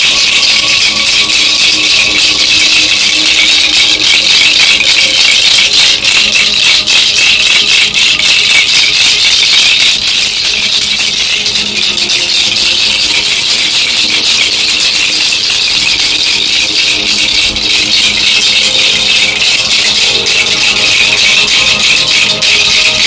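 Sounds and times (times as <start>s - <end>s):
hand rattle shaking fast: 0.0s - 23.0s.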